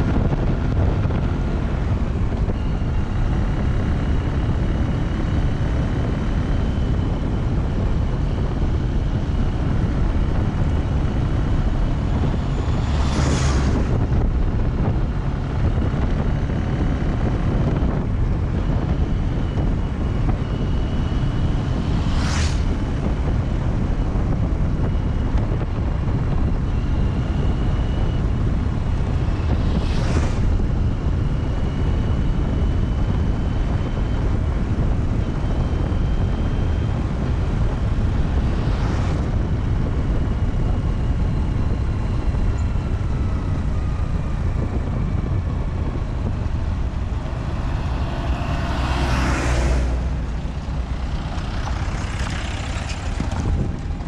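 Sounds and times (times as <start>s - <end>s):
vehicles passing: 0.0s - 34.9s, 35.6s - 54.0s
vehicle road rumble: 0.0s - 54.0s
wind rushing over microphone: 0.0s - 54.0s.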